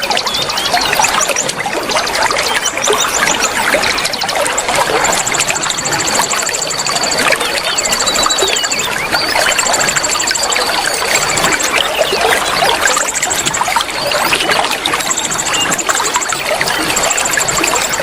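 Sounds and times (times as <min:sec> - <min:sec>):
songbirds trilling and chirping: 0:00.0 - 0:18.0
water trickling: 0:00.0 - 0:18.0.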